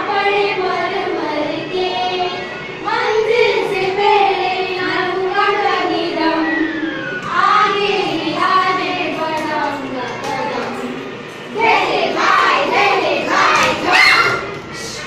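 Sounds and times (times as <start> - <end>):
young children singing: 0.0 - 15.0.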